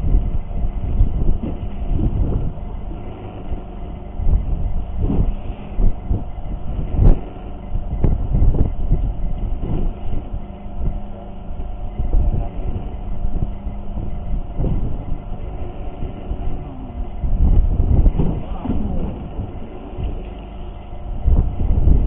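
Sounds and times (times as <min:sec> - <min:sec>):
boat motor droning: 0:00.0 - 0:22.0
hull thumping on waves: 0:00.0 - 0:22.0.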